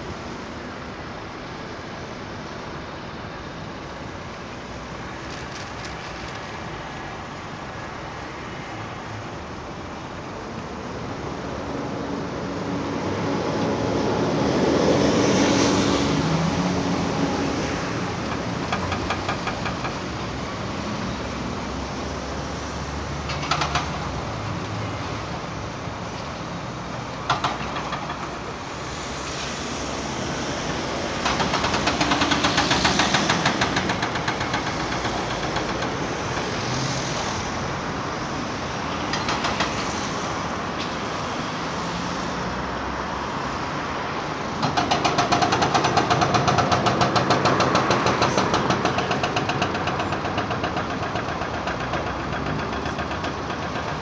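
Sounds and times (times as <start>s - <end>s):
diesel machinery noise: 0.0s - 54.0s.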